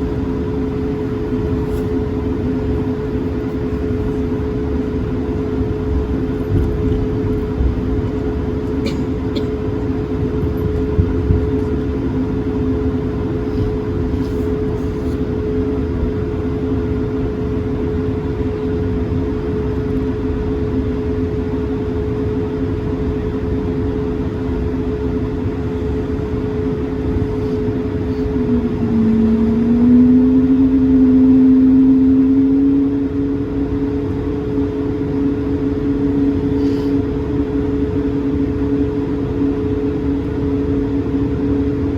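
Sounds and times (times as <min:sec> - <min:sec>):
aircraft engines humming: 0:00.0 - 0:41.9.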